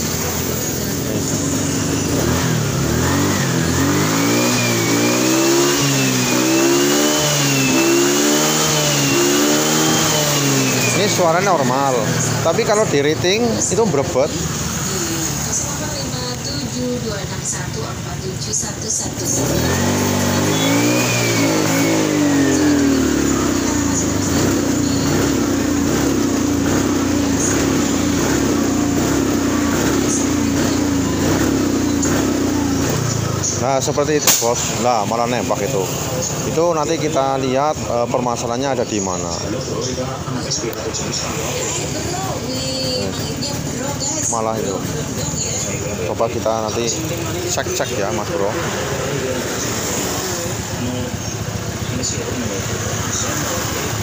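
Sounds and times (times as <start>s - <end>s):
scooter engine revving: 0.0s - 54.0s.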